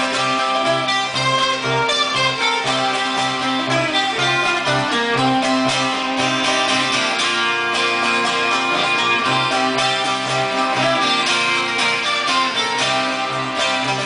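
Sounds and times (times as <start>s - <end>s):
acoustic guitars strumming: 0.0s - 14.0s
fiddle: 0.0s - 14.0s
plucked string instrument: 0.0s - 14.0s.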